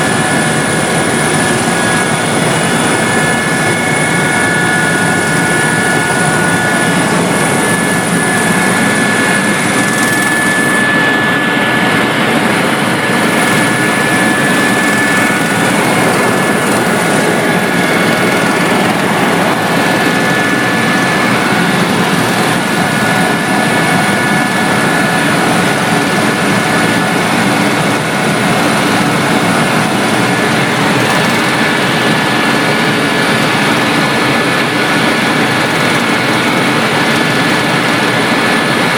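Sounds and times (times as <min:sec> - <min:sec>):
helicopter rotor and engine: 0:00.0 - 0:38.9
high whine: 0:00.0 - 0:38.9.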